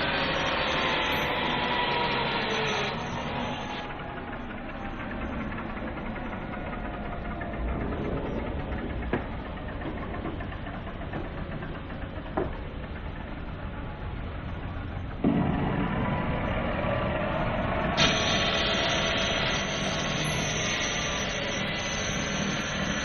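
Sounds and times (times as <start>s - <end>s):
machinery engine running: 0.0s - 23.0s.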